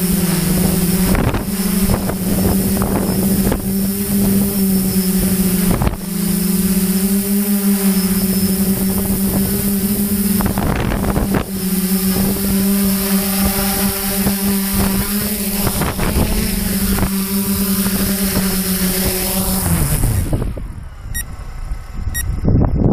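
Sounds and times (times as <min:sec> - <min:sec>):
drone motors humming: 0:00.0 - 0:22.9
wind buffeting microphone: 0:00.0 - 0:22.9.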